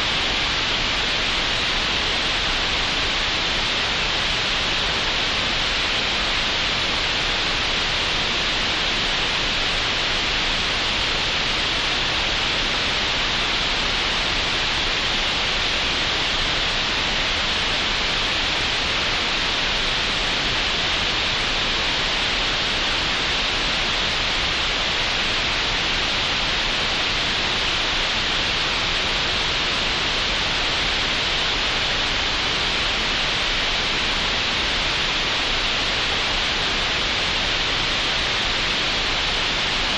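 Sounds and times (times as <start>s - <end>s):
steady green noise hiss: 0.0s - 39.9s.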